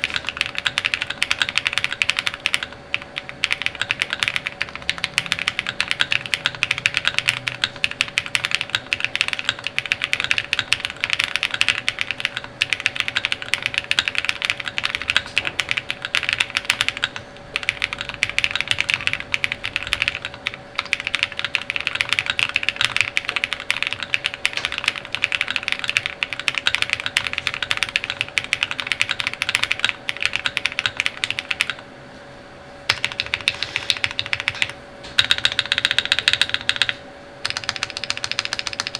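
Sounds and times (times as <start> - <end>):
fast typing on mechanical keyboard: 0.0 - 31.8, 32.9 - 38.9.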